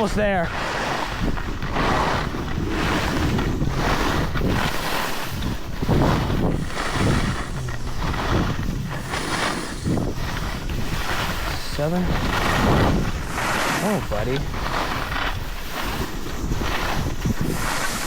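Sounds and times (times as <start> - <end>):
skis sliding over snow: 0.0 - 18.0
wind buffeting microphone: 0.0 - 18.0.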